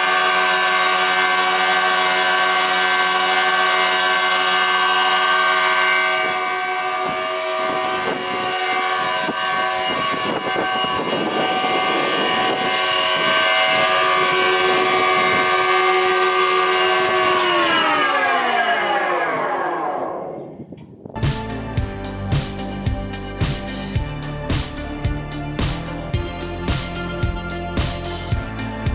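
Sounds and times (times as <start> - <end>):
sustained chord: 0.0 - 20.6, 21.2 - 28.9.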